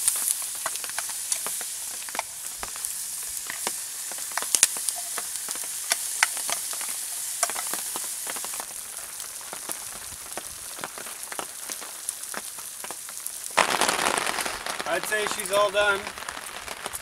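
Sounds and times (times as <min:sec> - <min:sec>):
food sizzling in a pan: 0:00.0 - 0:17.0
sharp pops and crackles: 0:00.0 - 0:17.0.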